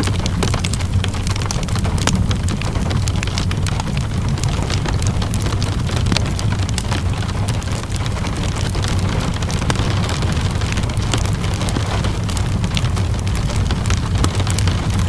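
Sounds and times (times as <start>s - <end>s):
steady rainfall: 0.0s - 15.0s
wood fire crackling: 0.0s - 15.0s.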